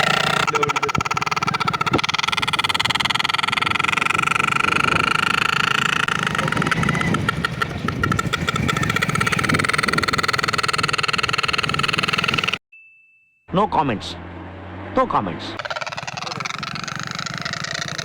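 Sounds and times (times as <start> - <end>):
motorcycle engine pulsing: 0.0 - 12.6, 13.7 - 18.0.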